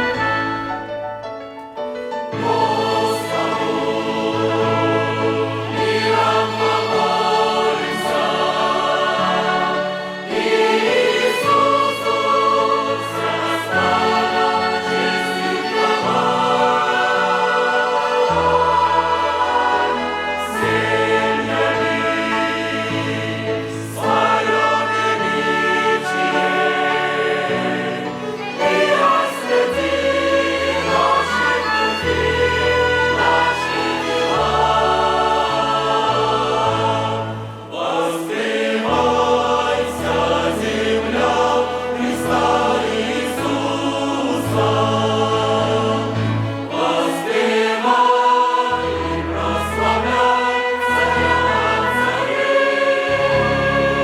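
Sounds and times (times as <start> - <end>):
choir singing: 0.0 - 1.0, 2.2 - 54.0
string orchestra: 0.0 - 54.0.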